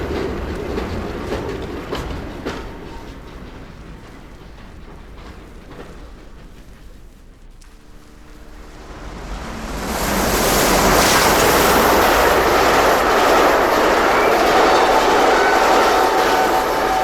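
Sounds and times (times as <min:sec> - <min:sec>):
passing train rushing: 0:00.0 - 0:17.0.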